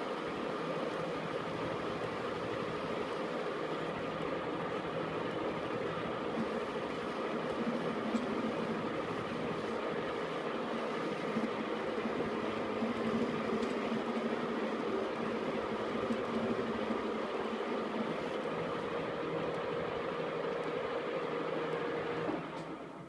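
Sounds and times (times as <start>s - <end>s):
lathe humming: 0.0s - 23.0s.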